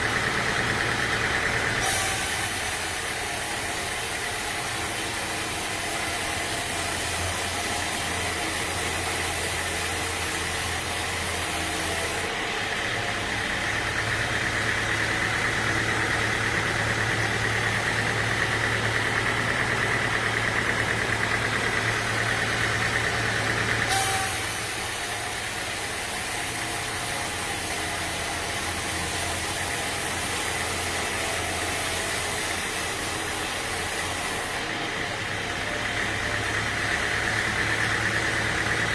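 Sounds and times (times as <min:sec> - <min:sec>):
sawmill engine hum: 0:00.0 - 0:38.9.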